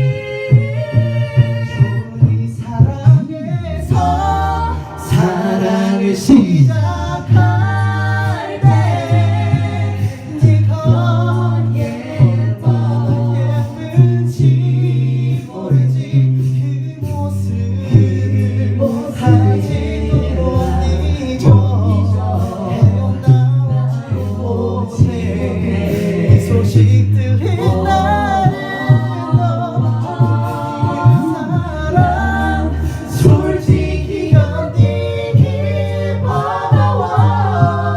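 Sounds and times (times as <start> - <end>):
a cappella group singing: 0.0 - 37.9
sung bass line: 0.0 - 37.9
vocal percussion hits: 0.0 - 37.9.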